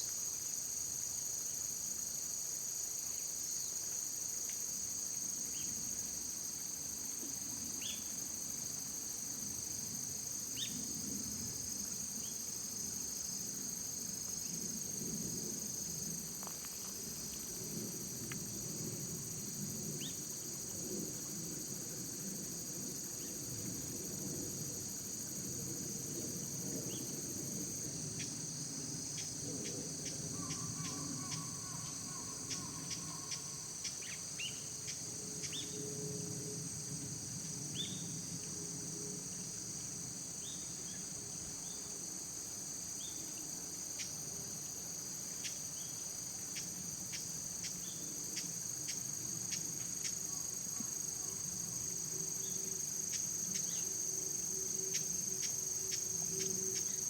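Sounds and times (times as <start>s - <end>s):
crickets and insects chorus: 0.0s - 57.0s.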